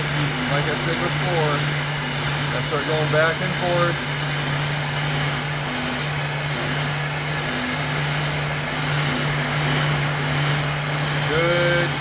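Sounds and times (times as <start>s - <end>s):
fan motor hum: 0.0s - 12.0s.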